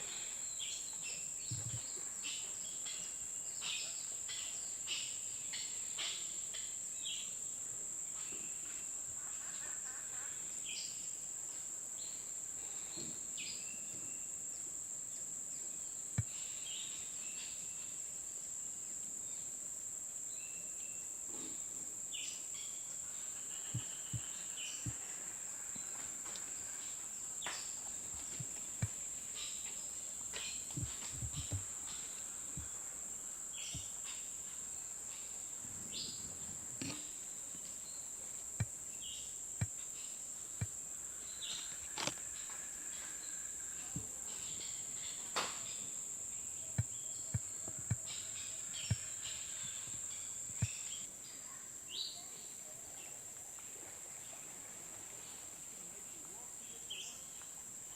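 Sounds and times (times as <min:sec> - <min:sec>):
insect chorus: 0:00.0 - 0:57.9.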